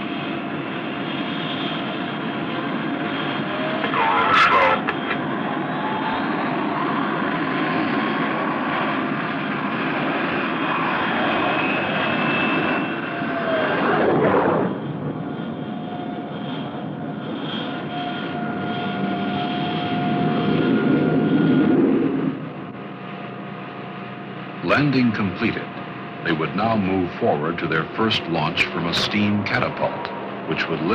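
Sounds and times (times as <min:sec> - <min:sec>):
aircraft engine running: 0:00.0 - 0:30.9.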